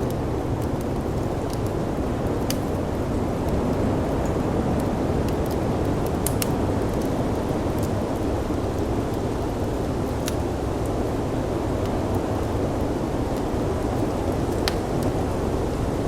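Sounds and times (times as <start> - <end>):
snowstorm wind rushing: 0.0 - 16.0
wood fire crackling: 0.0 - 16.0.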